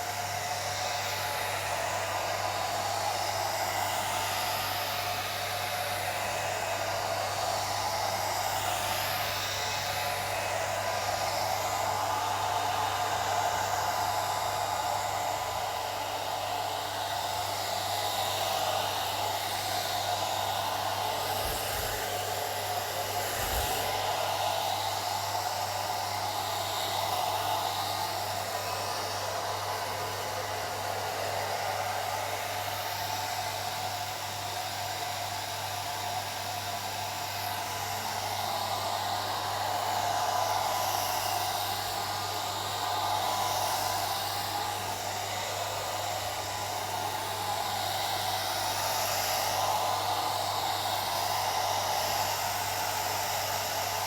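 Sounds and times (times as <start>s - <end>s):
hair dryer blowing air: 0.0s - 54.0s
hair dryer low hum: 0.0s - 54.0s.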